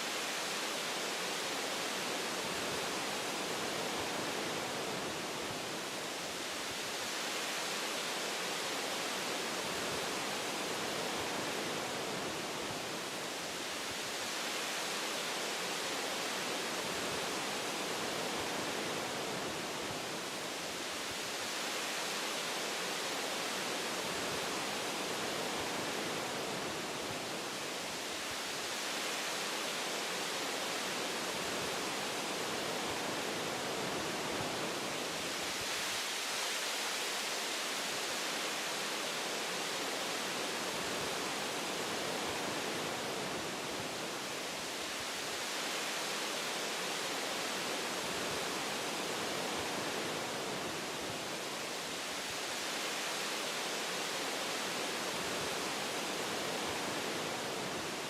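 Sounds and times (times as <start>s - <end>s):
wind through tree branches: 0.0s - 58.0s.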